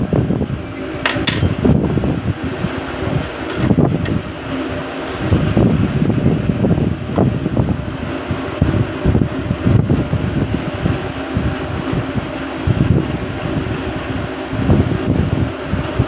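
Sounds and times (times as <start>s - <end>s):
fan airflow buffeting microphone: 0.0s - 16.0s.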